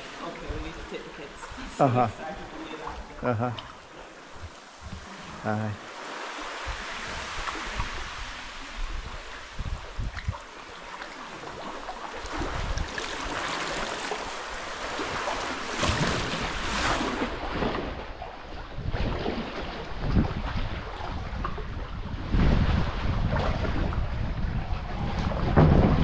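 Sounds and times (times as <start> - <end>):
paddle blades dipping in water: 0.0 - 26.0
water lapping and splashing: 0.0 - 26.0.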